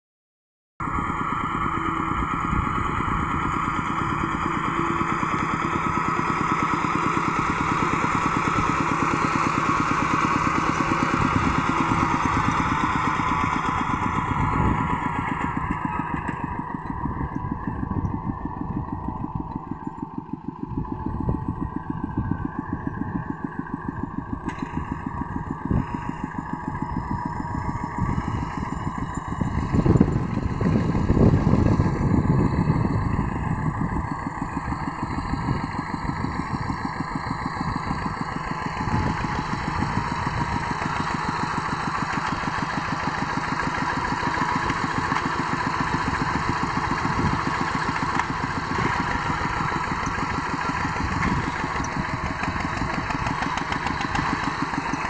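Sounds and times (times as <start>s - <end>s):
small diesel engine chugging: 0.8s - 55.0s.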